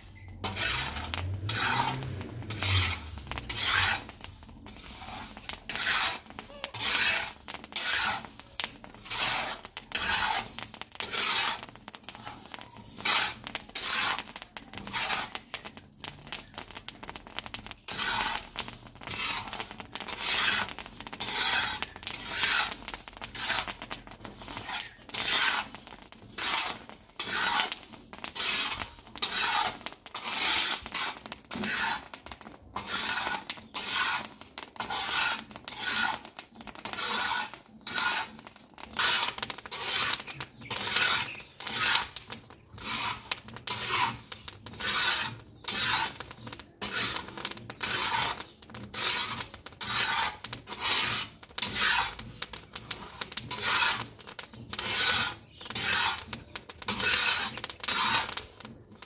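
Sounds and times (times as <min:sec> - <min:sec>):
spatula scraping hot griddle: 0:00.0 - 0:59.0.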